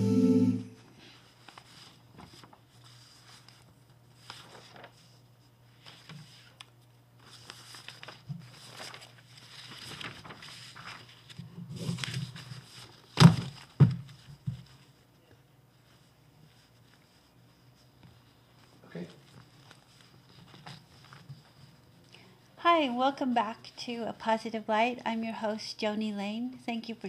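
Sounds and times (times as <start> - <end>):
faint shuffling and rustling: 0.9 - 24.0.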